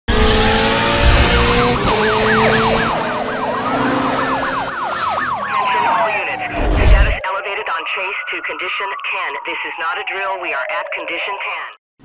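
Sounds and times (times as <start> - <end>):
second siren gliding downward: 0.2 - 11.0
siren yelping: 0.6 - 11.6.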